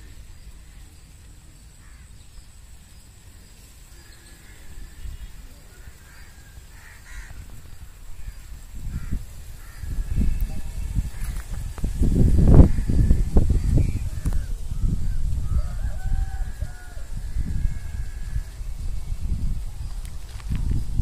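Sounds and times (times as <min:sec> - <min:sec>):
birds calling: 0:00.0 - 0:20.5.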